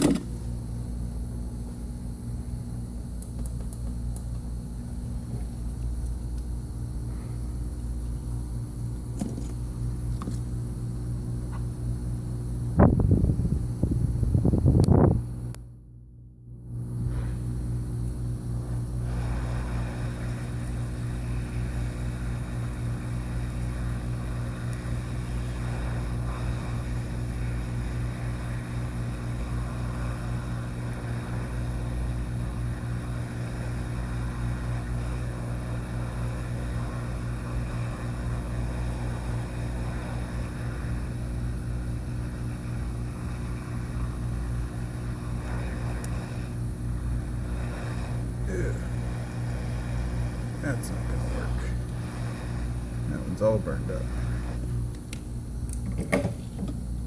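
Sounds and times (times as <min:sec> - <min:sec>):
electric fan motor hum: 0:00.0 - 0:57.0
low mains hum: 0:00.0 - 0:57.0.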